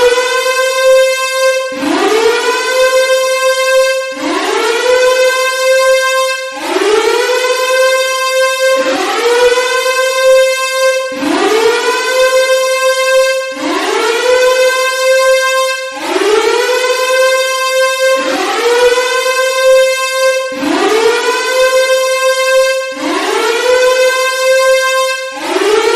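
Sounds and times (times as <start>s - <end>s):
warning siren winding up: 0.0s - 25.9s.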